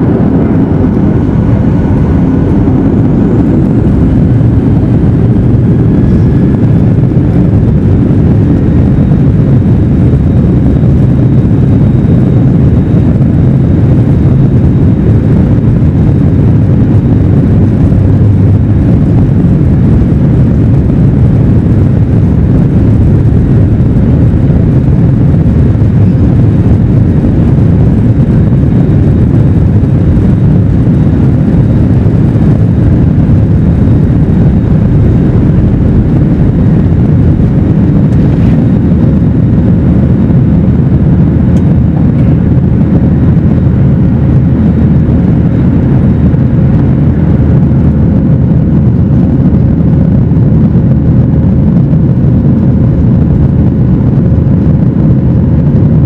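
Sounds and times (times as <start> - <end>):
airplane cabin jet engine rumble: 0.0 - 56.0.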